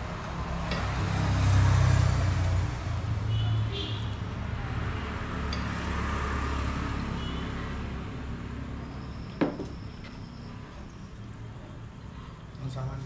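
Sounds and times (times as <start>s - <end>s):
road vehicle rumble passing: 0.0s - 13.0s.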